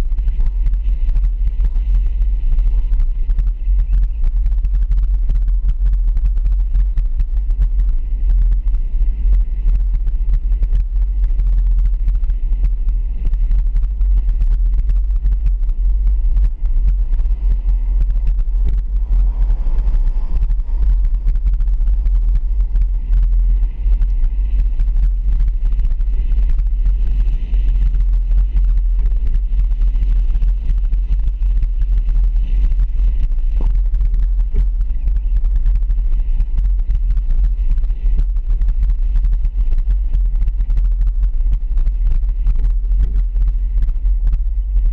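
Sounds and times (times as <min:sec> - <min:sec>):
vehicle driving low rumble: 0:00.0 - 0:44.9.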